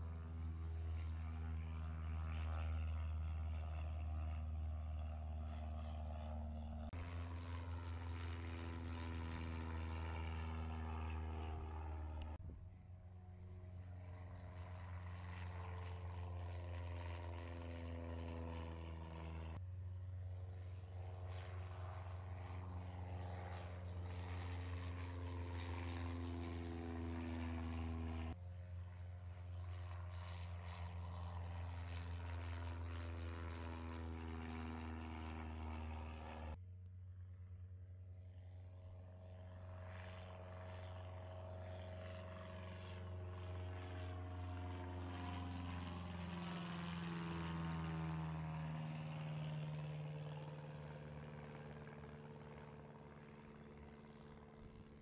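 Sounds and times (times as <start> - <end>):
propeller plane engine drone: 0.0 - 55.0.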